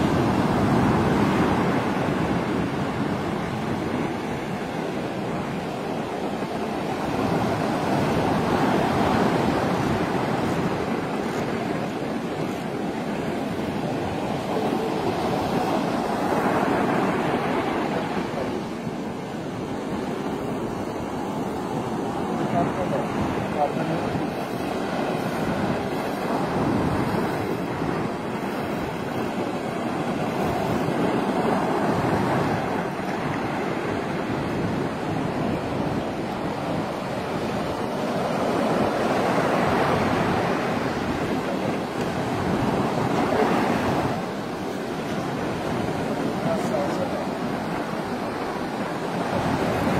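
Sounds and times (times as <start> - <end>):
surf breaking on a beach: 0.0 - 49.9
wind buffeting microphone: 0.0 - 49.9.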